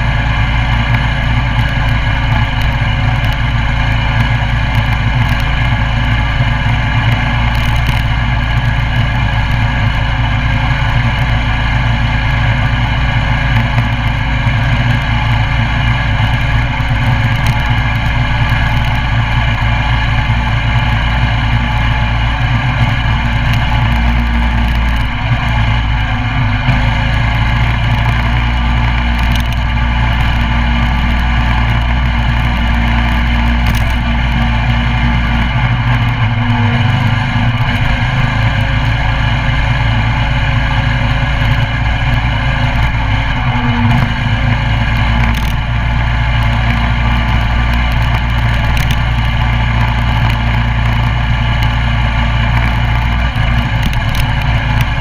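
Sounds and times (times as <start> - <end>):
mini bike engine running: 0.0 - 55.0.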